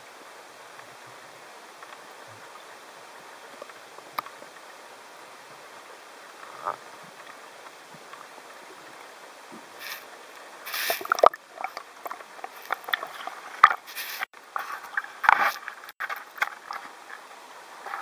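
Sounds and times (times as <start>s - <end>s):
water splashing and sloshing: 1.6s - 18.0s.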